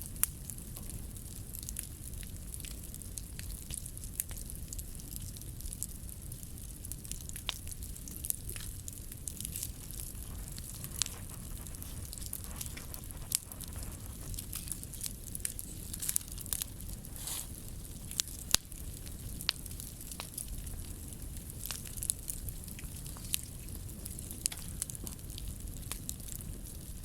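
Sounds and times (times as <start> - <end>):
bonfire crackling: 0.0 - 27.0
flames hissing and rumbling: 0.0 - 27.0.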